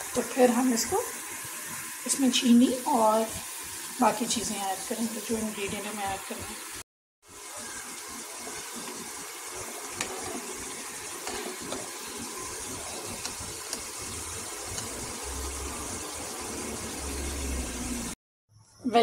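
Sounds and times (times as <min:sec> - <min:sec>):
pot bubbling and hissing: 0:00.0 - 0:18.2.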